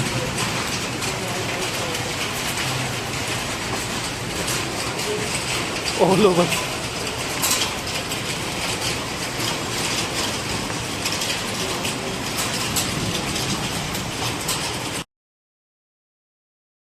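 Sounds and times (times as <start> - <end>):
hail falling hard: 0.0 - 15.0.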